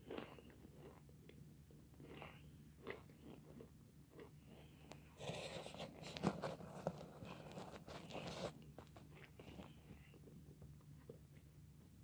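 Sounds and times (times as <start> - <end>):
chewing and crunching clay: 0.0 - 12.0.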